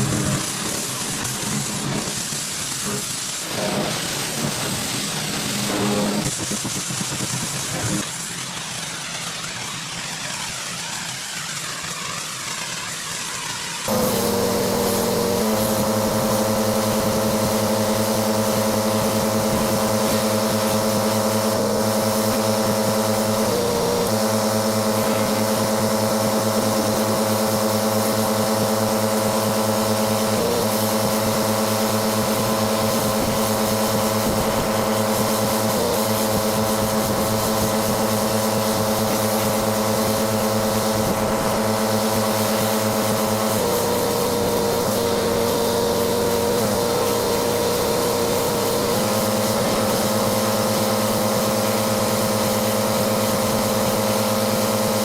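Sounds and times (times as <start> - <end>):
pressure washer engine running: 0.0 - 55.0
water spray hissing: 0.0 - 55.0.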